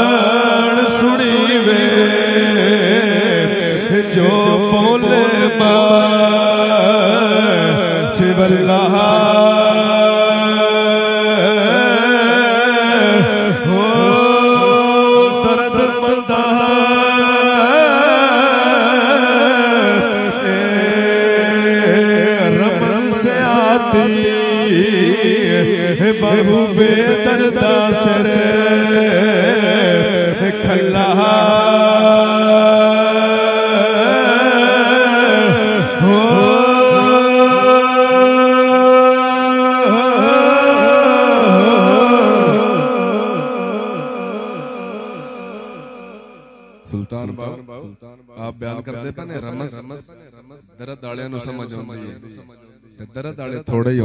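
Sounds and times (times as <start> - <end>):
man chanting over loudspeakers: 0.0 - 54.0.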